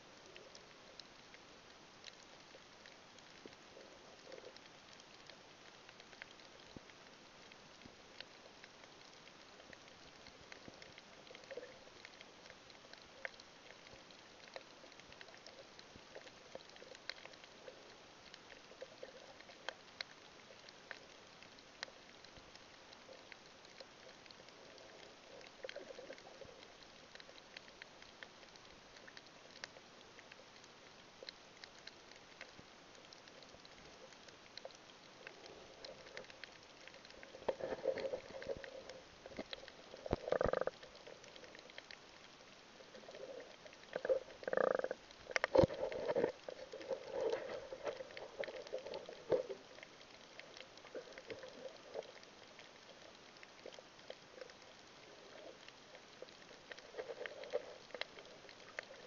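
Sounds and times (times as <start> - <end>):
low hiss: 0.0 - 59.0
muffled sloshing and bubbling: 0.0 - 59.0
underwater crackle of tiny clicks: 0.0 - 59.0.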